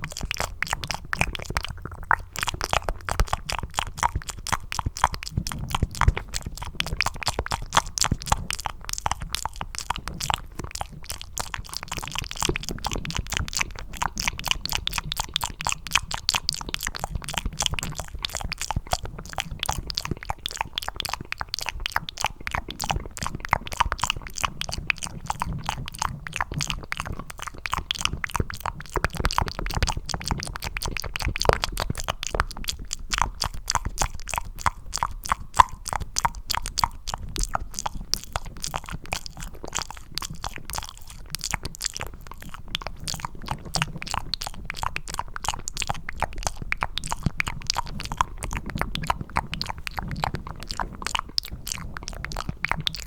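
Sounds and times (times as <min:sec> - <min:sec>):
mouth clicks and smacks: 0:00.0 - 0:53.0.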